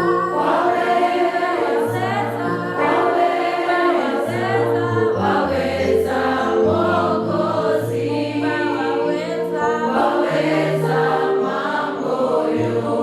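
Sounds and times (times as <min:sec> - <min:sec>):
choir singing in harmony: 0:00.0 - 0:13.0.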